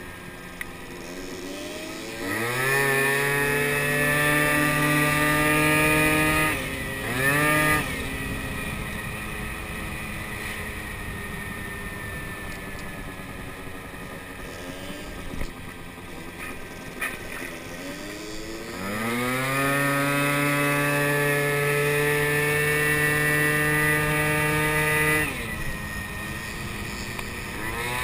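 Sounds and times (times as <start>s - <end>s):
moped engine revving: 0.0s - 28.0s.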